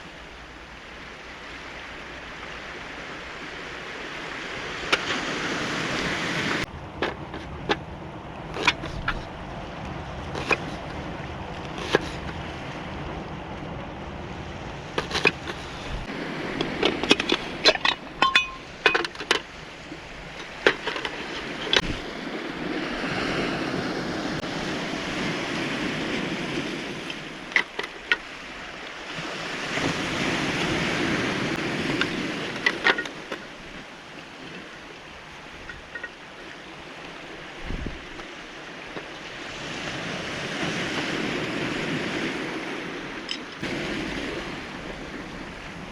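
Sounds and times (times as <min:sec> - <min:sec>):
waves on cobblestone beach: 0:00.0 - 0:45.9.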